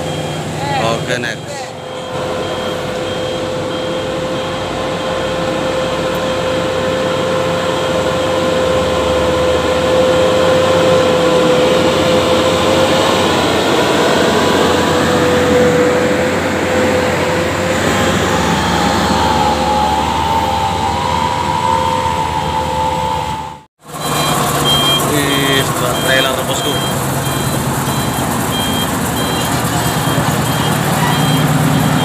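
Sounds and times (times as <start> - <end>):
heavy truck engine under load: 0.0 - 32.0
higher whine: 0.0 - 32.0
steady whine: 0.0 - 32.0.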